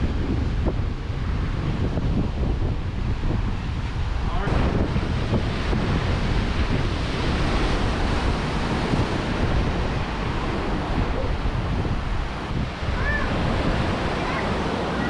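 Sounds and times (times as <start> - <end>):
ocean surf on rocks: 0.0 - 15.0
wind buffeting microphone: 0.0 - 15.0.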